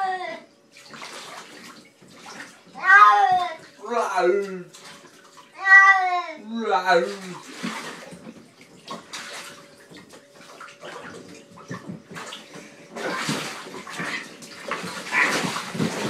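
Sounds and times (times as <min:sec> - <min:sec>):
bath water sloshing: 0:00.7 - 0:05.9, 0:06.9 - 0:16.0.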